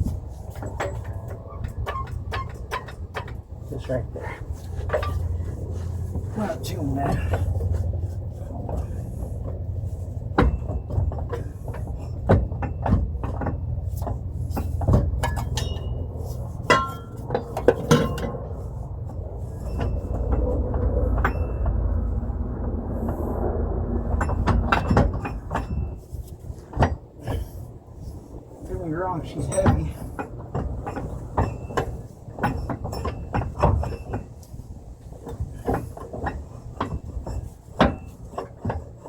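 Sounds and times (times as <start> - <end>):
metal clunks and scrapes: 0.0 - 22.3, 24.1 - 39.0
steady low rumble: 0.0 - 39.0.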